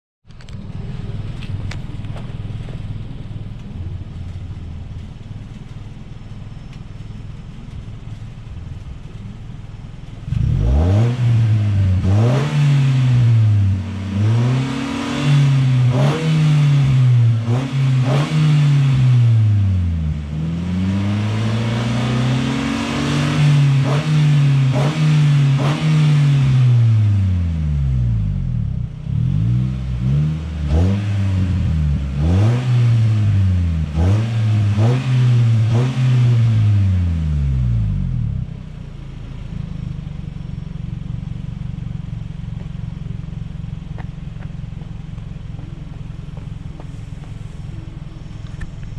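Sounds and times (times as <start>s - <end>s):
car engine idling and revving: 0.2s - 48.9s.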